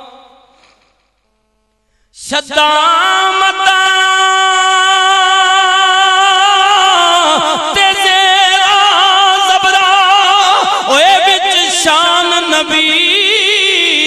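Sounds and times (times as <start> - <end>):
man singing into a microphone: 0.0 - 0.5, 2.1 - 14.0.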